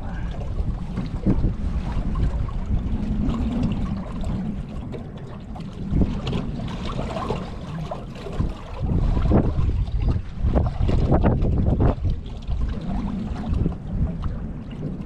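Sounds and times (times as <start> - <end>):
water sloshing against boat: 0.0 - 15.0
wind buffeting microphone: 0.0 - 15.0.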